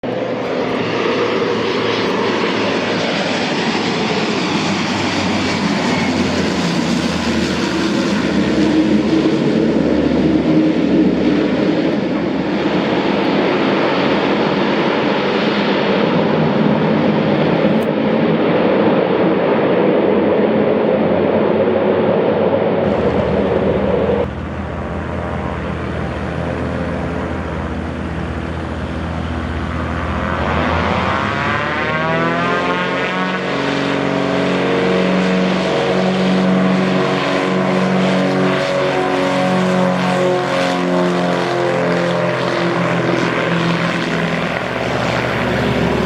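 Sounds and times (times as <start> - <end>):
aircraft engine running: 0.0 - 46.0.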